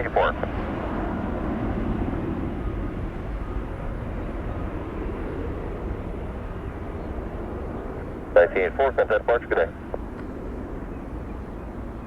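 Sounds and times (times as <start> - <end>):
jet engine rushing: 0.0 - 11.9.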